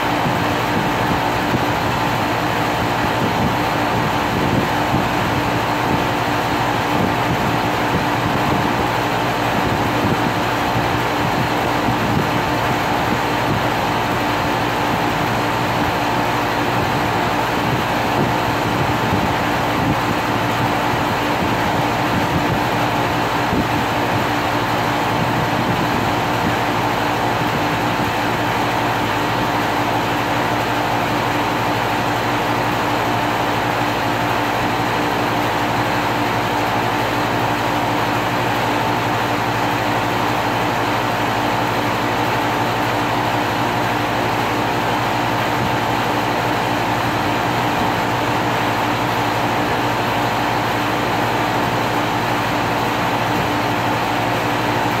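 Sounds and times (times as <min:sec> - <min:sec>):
fan rushing noise: 0:00.0 - 0:55.0.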